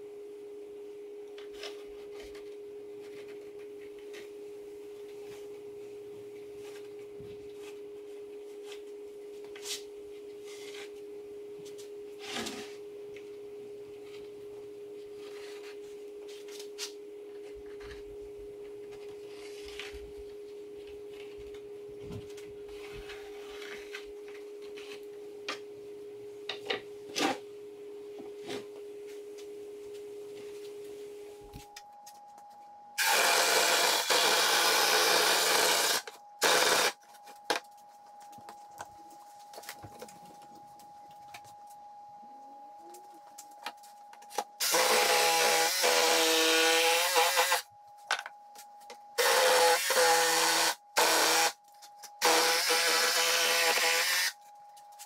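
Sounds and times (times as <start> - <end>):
steady single-tone hum: 0.0 - 55.0.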